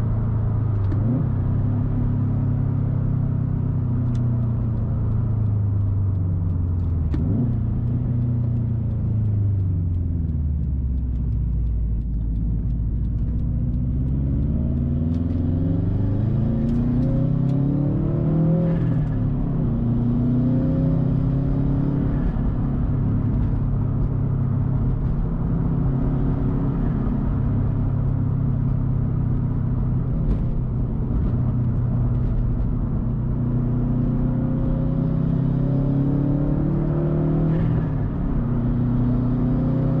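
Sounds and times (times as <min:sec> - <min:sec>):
car engine revving while driving: 0:00.0 - 0:40.0.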